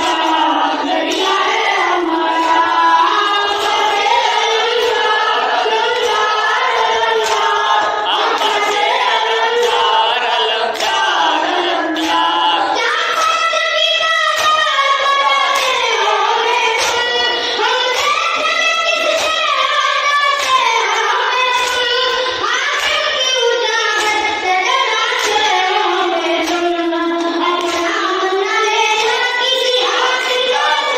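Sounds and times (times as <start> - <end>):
boy chanting into microphone: 0.0 - 30.9.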